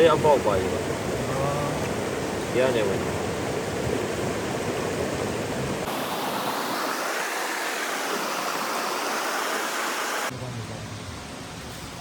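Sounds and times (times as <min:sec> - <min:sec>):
stream water rushing: 0:00.0 - 0:10.3.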